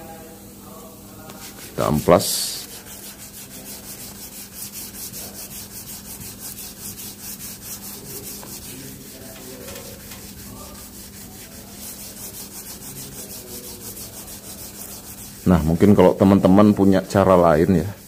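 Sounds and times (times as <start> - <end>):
sandpaper scrubbing wet panel: 1.3 - 18.0.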